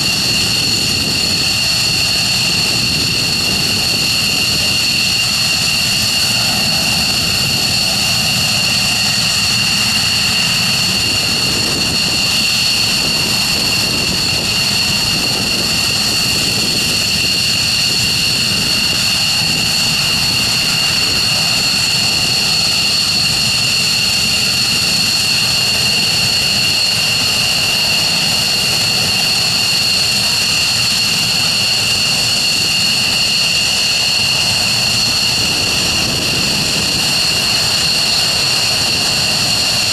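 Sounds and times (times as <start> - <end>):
high whining jet engine tones: 0.0 - 39.9
jet engines roaring: 0.0 - 39.9.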